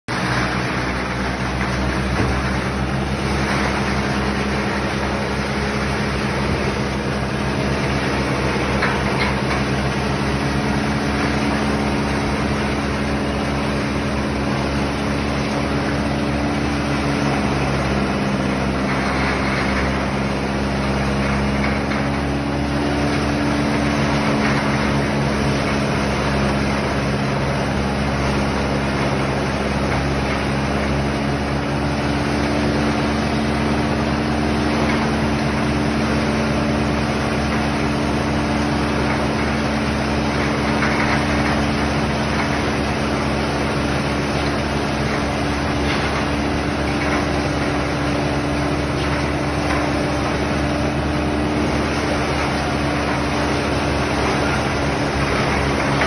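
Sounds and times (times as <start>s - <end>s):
tractor engine running: 0.1s - 56.0s.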